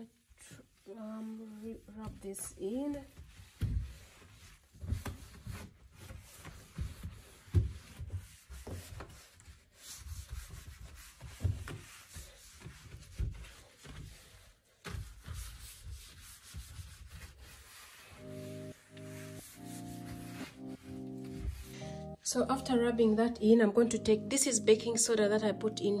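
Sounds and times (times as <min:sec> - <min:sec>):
wet cloth rubbing on shelf: 0:00.1 - 0:22.2.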